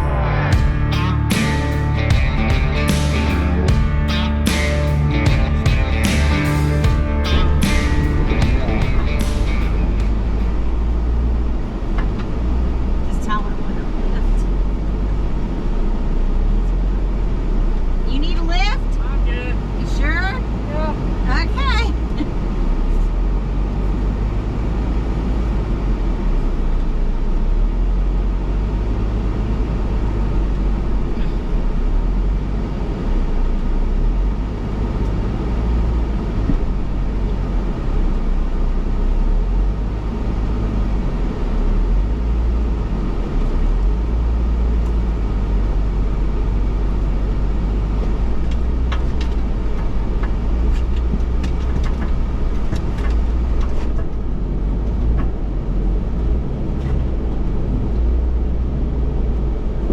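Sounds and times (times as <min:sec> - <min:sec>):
engine and tyres rumbling: 0:00.0 - 0:59.9.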